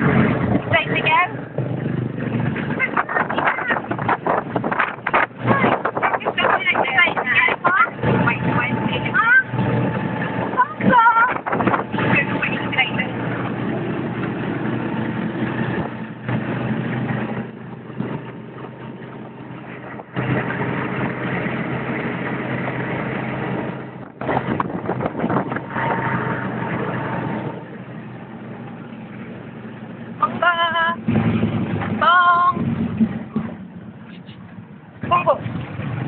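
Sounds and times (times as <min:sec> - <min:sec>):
road and wind noise: 0:00.0 - 0:36.0.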